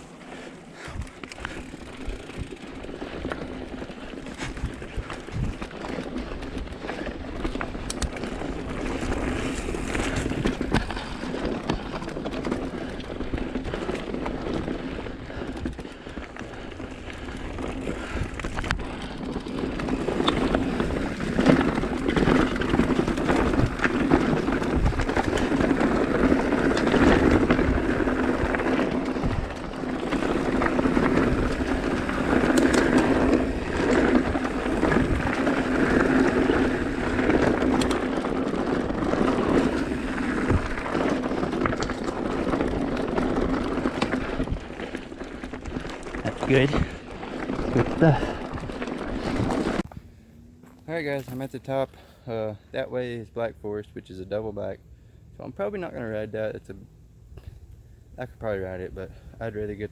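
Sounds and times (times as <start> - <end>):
bike rattling: 0.0 - 59.9
tyres rolling over dirt and rock: 0.0 - 59.9.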